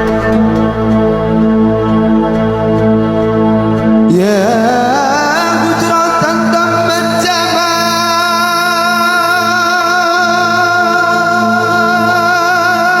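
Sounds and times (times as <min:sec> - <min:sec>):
person singing a long note: 0:00.0 - 0:13.0
steady low drone: 0:00.0 - 0:13.0.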